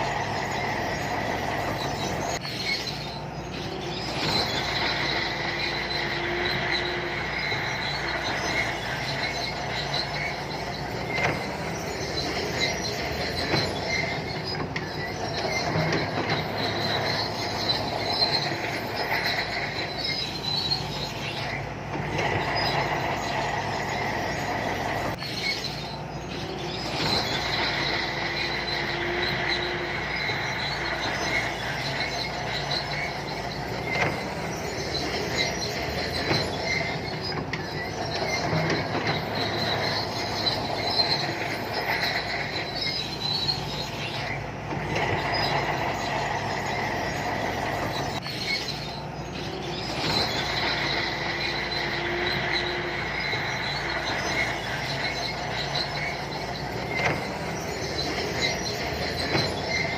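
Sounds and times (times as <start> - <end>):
diesel engine running: 0.0 - 59.9
steel tracks squealing and clanking: 0.0 - 59.9.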